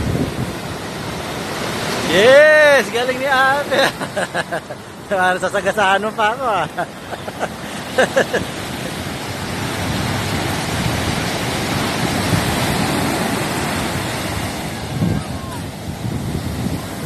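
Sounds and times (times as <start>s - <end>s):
wave breaking and washing in: 0.0s - 17.0s.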